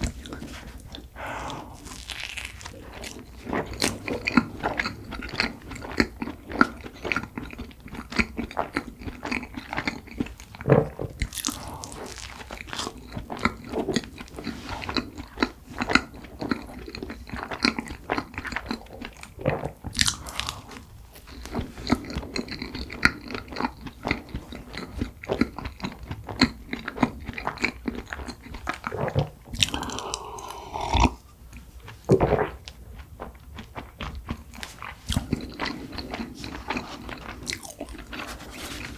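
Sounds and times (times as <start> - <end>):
biting and chewing with mouth clicks: 0.0 - 38.9.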